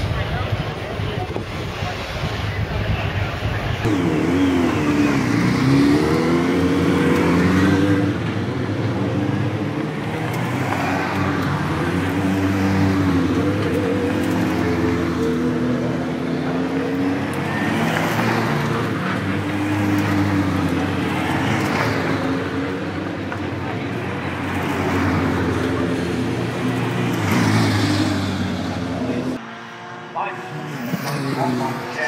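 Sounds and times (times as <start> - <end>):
race car engines at low revs: 0.0 - 32.0.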